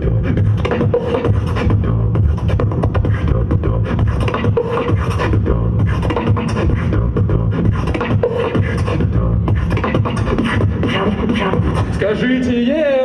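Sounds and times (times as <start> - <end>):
beatboxing mouth percussion: 0.0 - 12.2
deep bass beat: 0.0 - 12.2.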